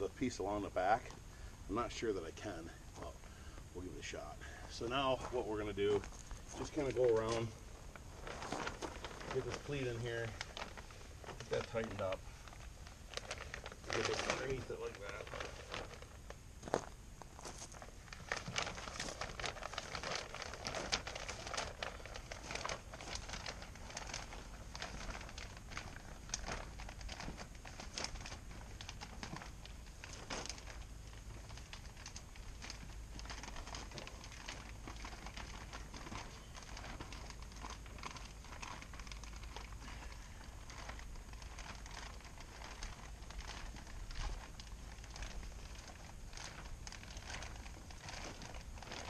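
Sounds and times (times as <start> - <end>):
plastic film crinkling and rustling: 0.0 - 49.0.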